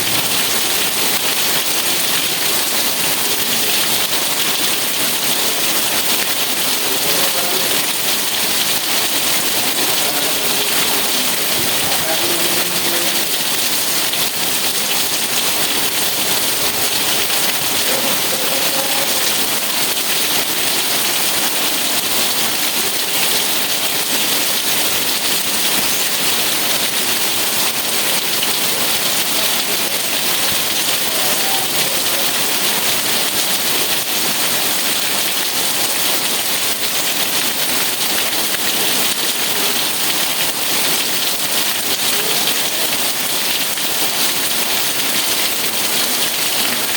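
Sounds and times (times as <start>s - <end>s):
steady rain pattering: 0.0s - 46.9s.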